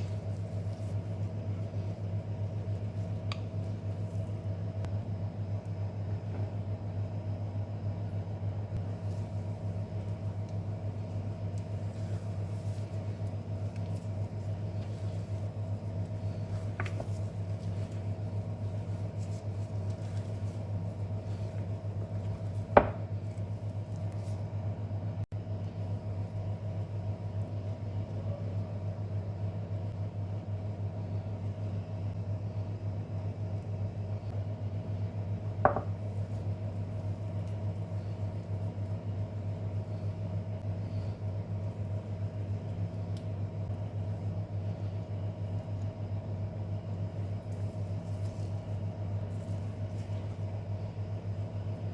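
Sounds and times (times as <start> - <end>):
low electrical hum: 0.0 - 51.9.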